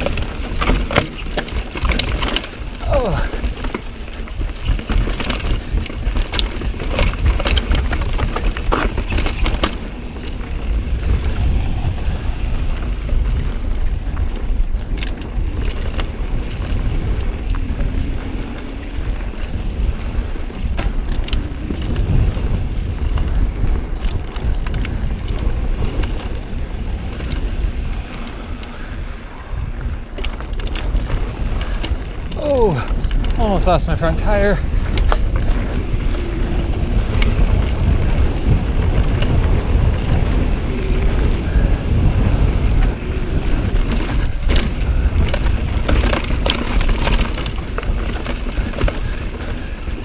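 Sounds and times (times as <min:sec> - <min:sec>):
bike clicking and rattling on rocks: 0:00.0 - 0:50.0
bike tyres rumbling over rock: 0:00.0 - 0:50.0.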